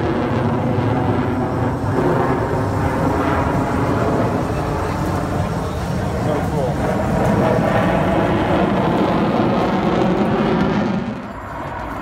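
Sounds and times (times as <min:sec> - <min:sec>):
jet engine rumble overhead: 0:00.0 - 0:12.0.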